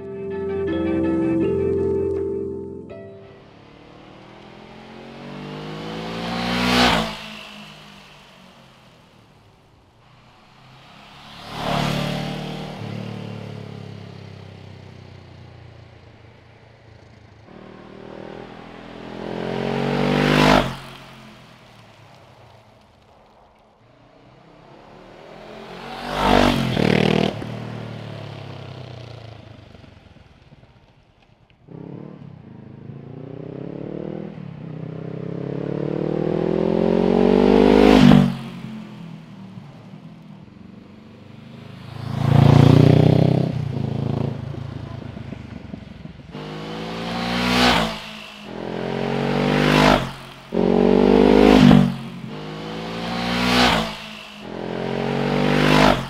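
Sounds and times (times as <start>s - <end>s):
motorcycle passing by: 0.0s - 23.0s, 24.1s - 56.0s.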